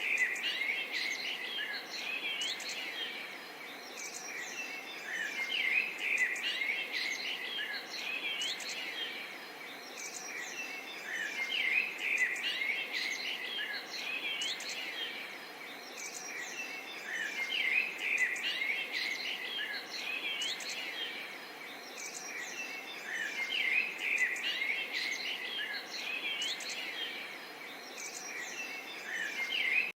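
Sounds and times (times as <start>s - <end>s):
birds chirping and singing: 0.0s - 30.0s.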